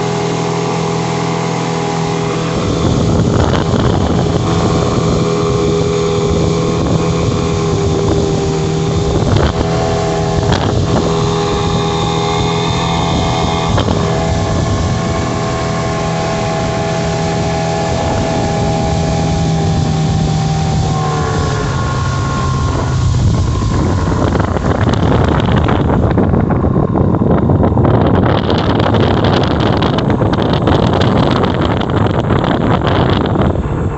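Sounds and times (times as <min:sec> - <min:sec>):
boat wake rushing: 0:00.0 - 0:33.9
outboard motor running: 0:00.0 - 0:33.9
wind on microphone: 0:00.0 - 0:33.9.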